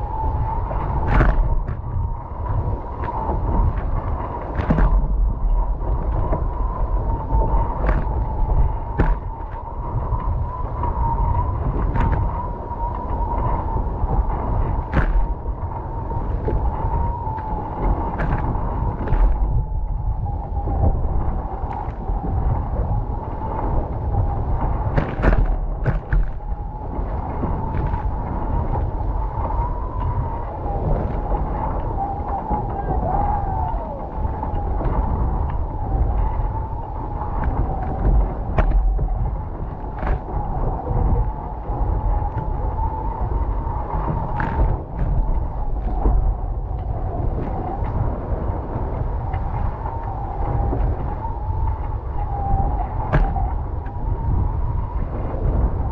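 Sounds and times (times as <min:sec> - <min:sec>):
low rumble: 0:00.0 - 0:55.9
wind on microphone: 0:00.0 - 0:55.9.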